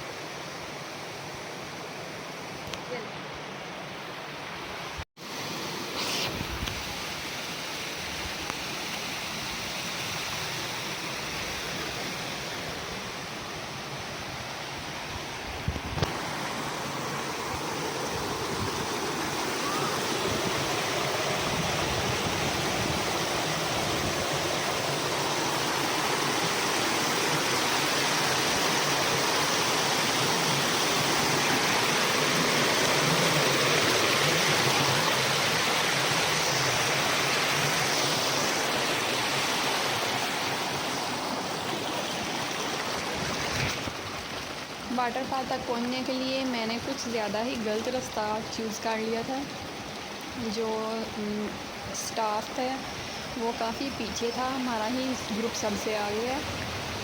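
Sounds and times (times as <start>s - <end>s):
rushing waterfall and stream: 0.0s - 57.0s.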